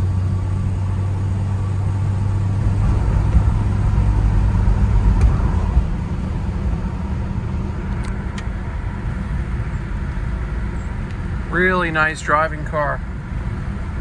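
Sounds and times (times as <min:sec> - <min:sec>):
car engine running steadily: 0:00.0 - 0:14.0
road and wind noise: 0:00.0 - 0:14.0.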